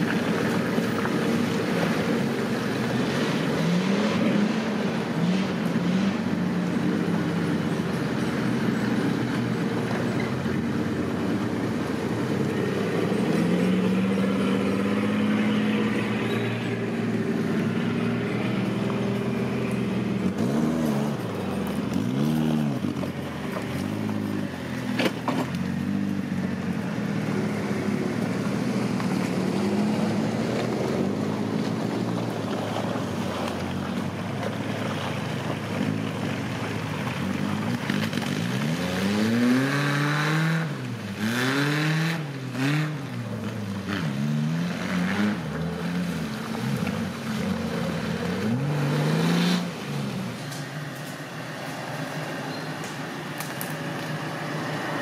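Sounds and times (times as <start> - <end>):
engine revving: 1.5 - 33.6, 37.3 - 55.0.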